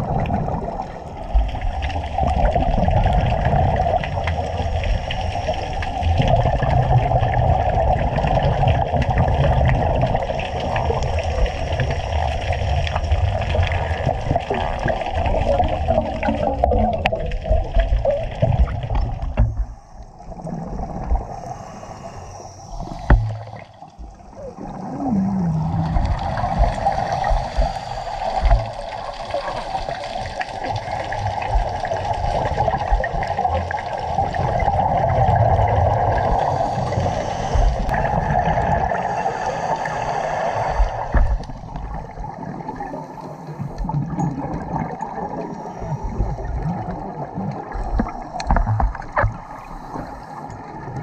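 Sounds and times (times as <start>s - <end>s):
diver's air bubbling: 0.0s - 51.0s
water gurgling and rushing: 0.0s - 51.0s.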